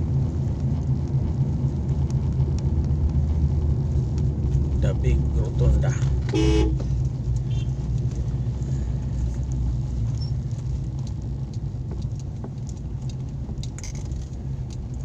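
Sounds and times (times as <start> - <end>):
car driving rumble from inside: 0.0 - 15.0.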